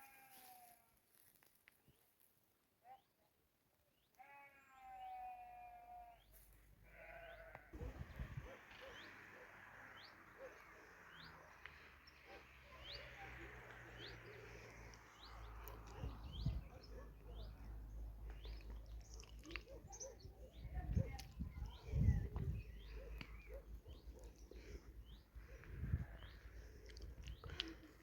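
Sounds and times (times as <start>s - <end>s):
faint outdoor background noise: 0.0s - 28.0s.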